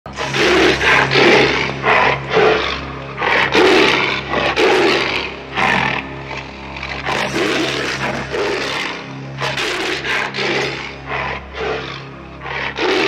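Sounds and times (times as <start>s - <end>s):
large animal roaring: 0.1s - 13.0s.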